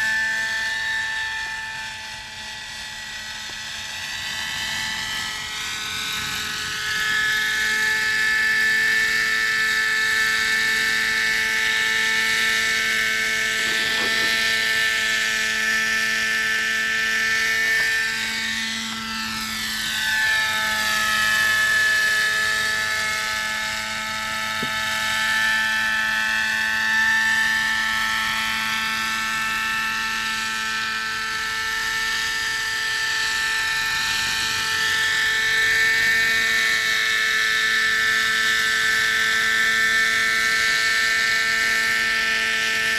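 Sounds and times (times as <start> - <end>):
model helicopter engine: 0.0 - 42.9.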